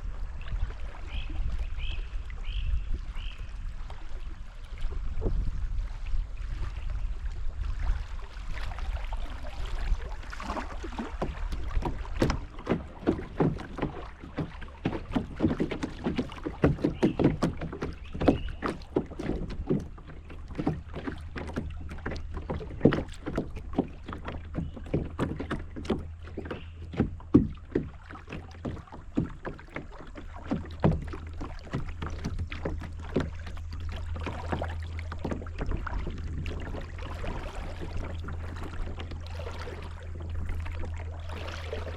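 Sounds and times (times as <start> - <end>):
paddle knocks and splashes: 0.0 - 41.9.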